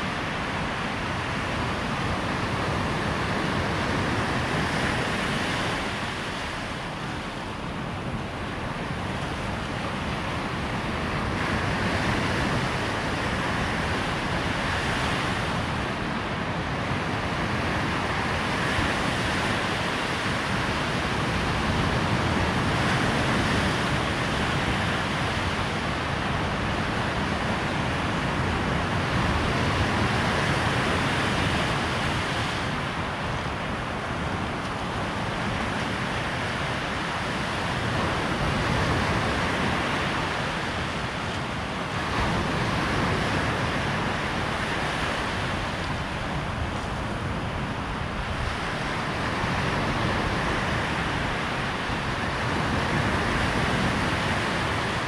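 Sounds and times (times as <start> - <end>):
waves breaking on shore: 0.0 - 55.0
wind rumbling on microphone: 0.0 - 55.0.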